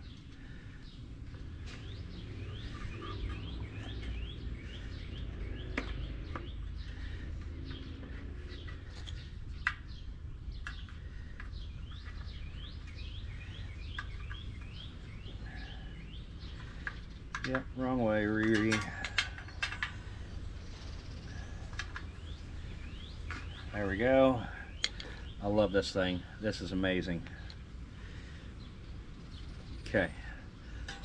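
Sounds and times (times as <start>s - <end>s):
small birds chirping: 0.0s - 31.0s
steady low rumble: 0.0s - 31.0s.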